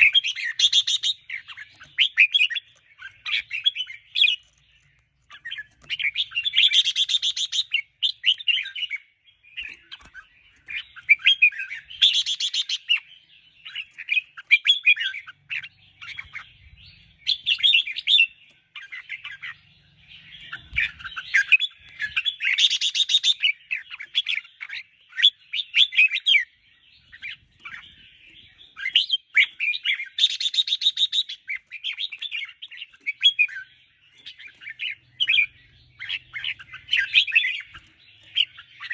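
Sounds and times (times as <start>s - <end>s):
bird warbling chirps: 0.0s - 38.9s.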